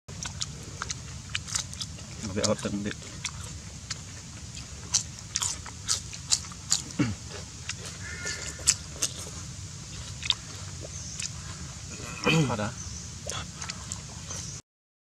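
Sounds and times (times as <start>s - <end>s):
crunchy chewing: 0.1s - 14.6s.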